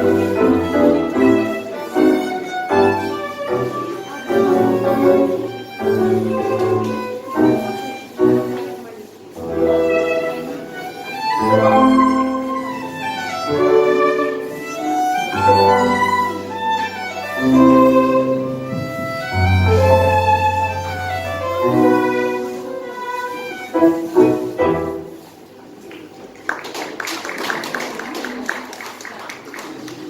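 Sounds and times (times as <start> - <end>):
violin bowed melody: 0.0 - 25.2
tango ensemble music: 0.0 - 26.2.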